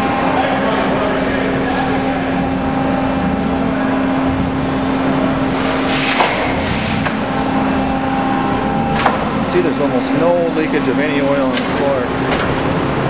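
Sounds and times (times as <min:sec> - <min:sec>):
hydraulic power unit humming: 0:00.0 - 0:13.0.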